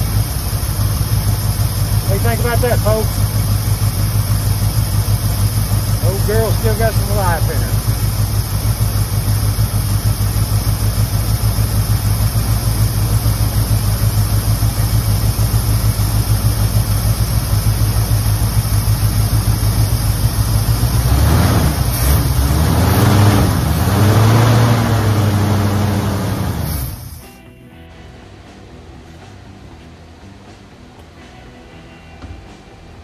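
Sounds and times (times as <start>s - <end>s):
car engine idling and revving: 0.0s - 27.3s.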